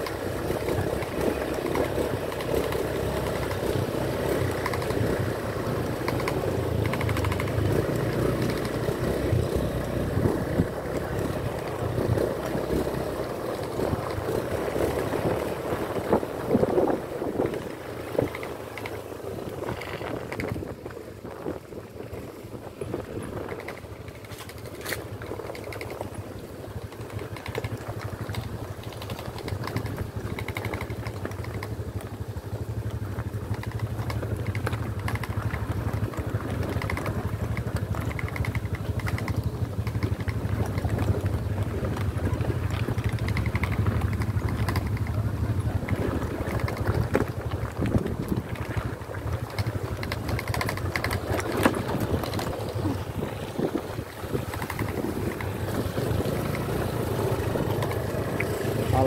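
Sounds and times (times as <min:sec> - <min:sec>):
bikes rattling on stones: 0:00.0 - 0:59.0
motorcycle engines running: 0:00.0 - 0:59.0.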